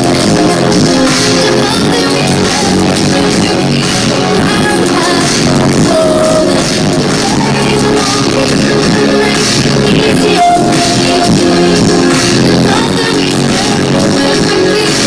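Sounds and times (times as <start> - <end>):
synth-pop band playing live: 0.0 - 15.0
woman singing lead vocal: 0.0 - 15.0.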